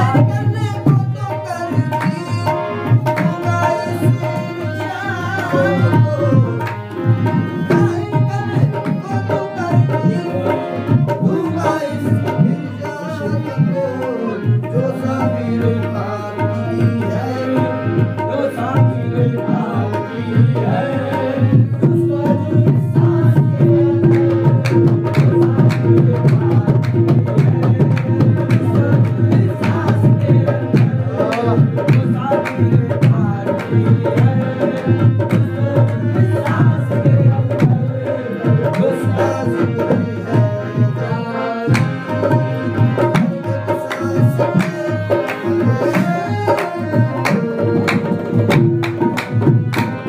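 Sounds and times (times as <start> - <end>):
harmonium held notes: 0.0 - 50.0
tabla playing fast rhythm: 0.0 - 50.0.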